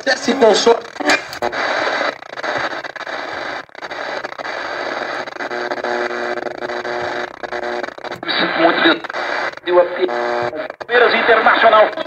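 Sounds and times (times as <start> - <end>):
faint steady radio tones: 0.0 - 12.0
radio static hiss: 0.0 - 12.0.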